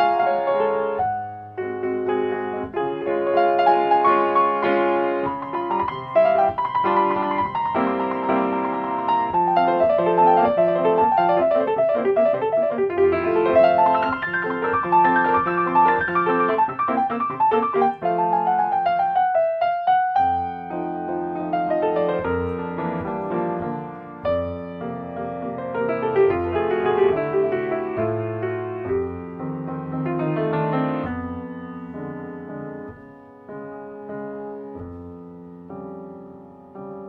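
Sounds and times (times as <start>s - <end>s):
solo piano classical music: 0.0s - 37.0s.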